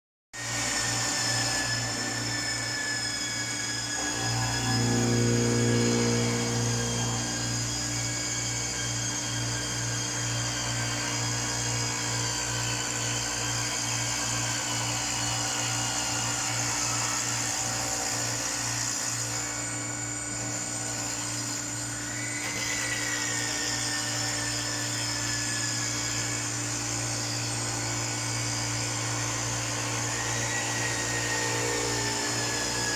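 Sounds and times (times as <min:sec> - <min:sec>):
high machine whining: 0:00.4 - 0:32.9
stone cutting machine humming: 0:00.4 - 0:32.9.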